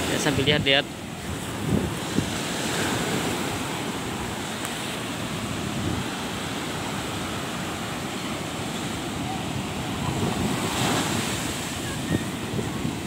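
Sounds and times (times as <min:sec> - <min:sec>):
waves breaking on beach: 0:00.0 - 0:13.0
wind on microphone: 0:00.0 - 0:13.0.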